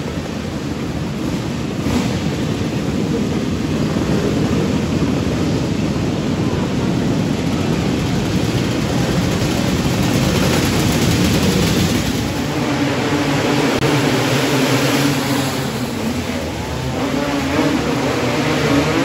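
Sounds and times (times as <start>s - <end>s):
kart engines droning: 0.0s - 19.0s.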